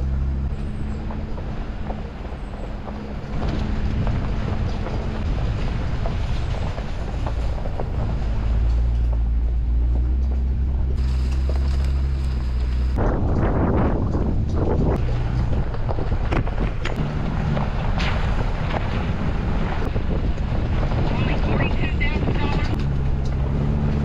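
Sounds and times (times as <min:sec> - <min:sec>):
engine running at low speed: 0:00.0 - 0:24.0
rough rustling noise: 0:00.0 - 0:24.0.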